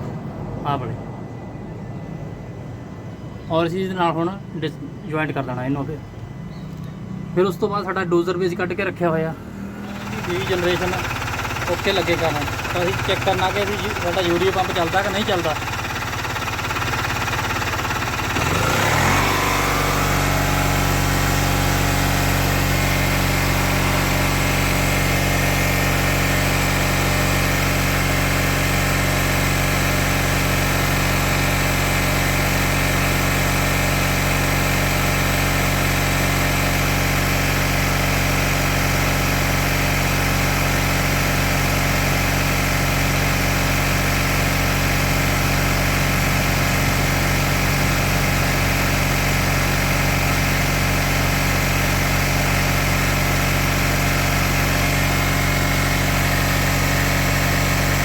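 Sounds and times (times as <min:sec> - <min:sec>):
diesel engine running: 0:06.8 - 0:58.0.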